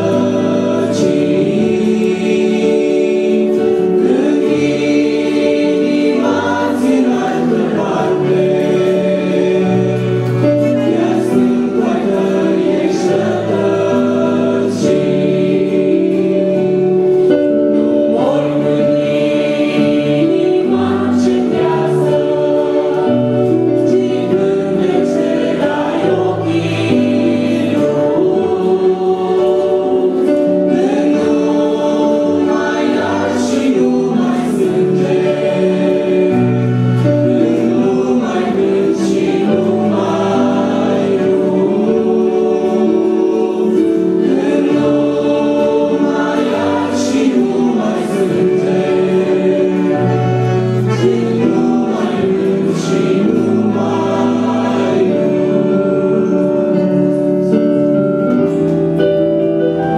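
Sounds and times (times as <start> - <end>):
electric keyboard chords: 0.0 - 59.9.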